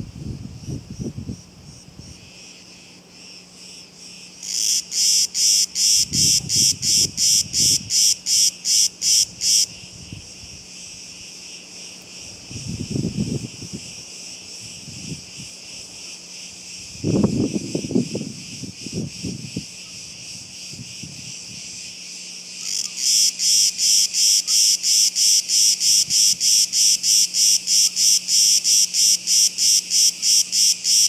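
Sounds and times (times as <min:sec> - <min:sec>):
cicada pulsing call: 0:00.0 - 0:31.0
cicadas droning: 0:00.0 - 0:31.0.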